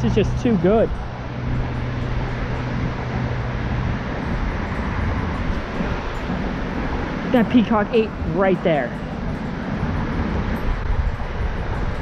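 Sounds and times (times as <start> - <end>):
low engine hum: 0.0 - 12.0
road traffic rumble: 0.0 - 12.0.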